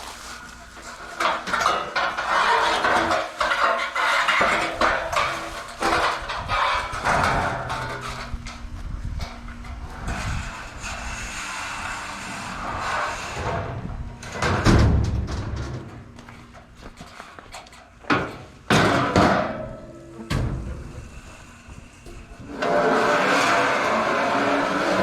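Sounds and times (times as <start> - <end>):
scrap metal clanking: 0.6 - 25.0.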